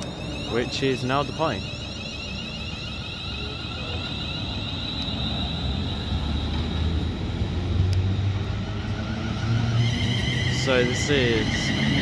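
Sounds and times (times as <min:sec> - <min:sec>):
electric train whine: 0:00.0 - 0:12.0
train rumble: 0:00.0 - 0:12.0.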